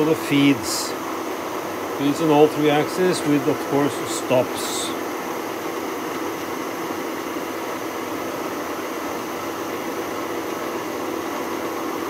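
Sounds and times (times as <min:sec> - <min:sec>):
milling machine spindle motor: 0:00.0 - 0:12.0
noisy feed drive: 0:00.0 - 0:12.0.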